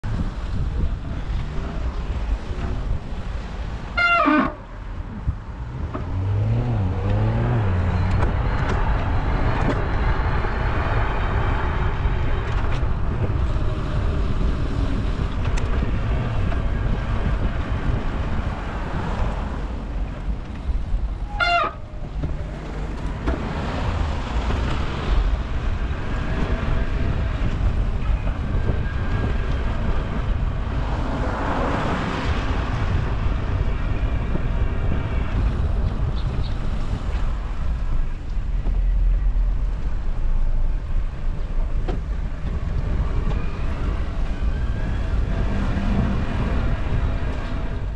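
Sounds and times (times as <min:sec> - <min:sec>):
cars passing: 0:00.0 - 0:47.9
wind rumble on microphone: 0:00.0 - 0:47.9.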